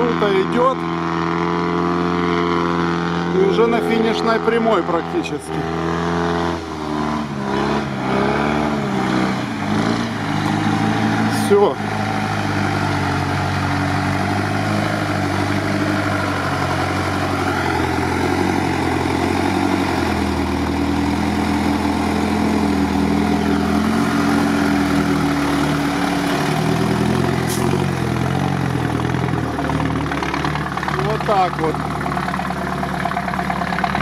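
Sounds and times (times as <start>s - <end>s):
truck engine under load: 0.0s - 34.0s.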